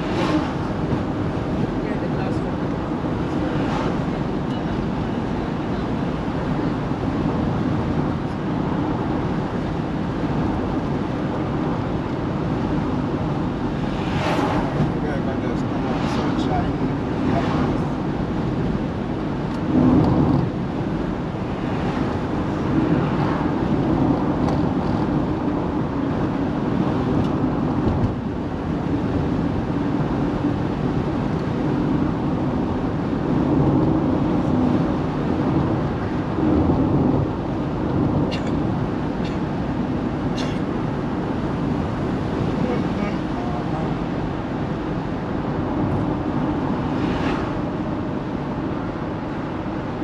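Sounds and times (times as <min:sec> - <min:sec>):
car engine and tyre noise: 0:00.0 - 0:50.0.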